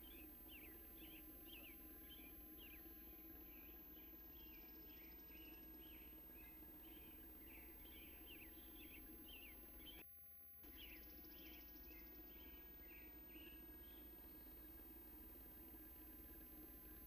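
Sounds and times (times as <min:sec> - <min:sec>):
faint birds chirping: 0:00.0 - 0:17.0
steady low hum: 0:00.0 - 0:17.0.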